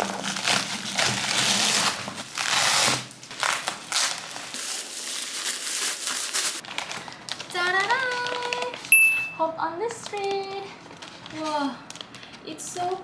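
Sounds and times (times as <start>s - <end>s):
packaging crinkling and rustling: 0.0s - 9.0s, 9.8s - 13.0s.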